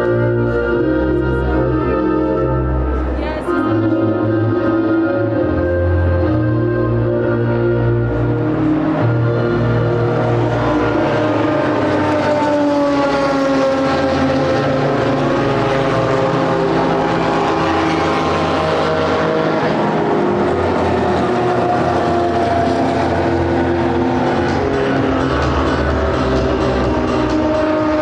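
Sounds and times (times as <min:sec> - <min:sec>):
engine drone: 0:00.0 - 0:28.0.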